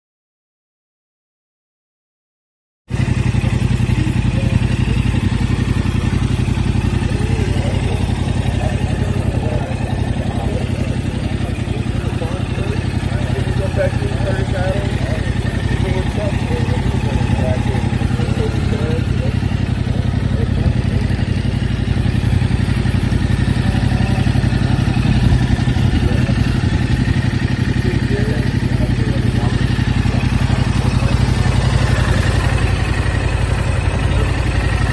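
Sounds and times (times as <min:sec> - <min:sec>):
motorcycle engine idling: 0:02.9 - 0:34.9.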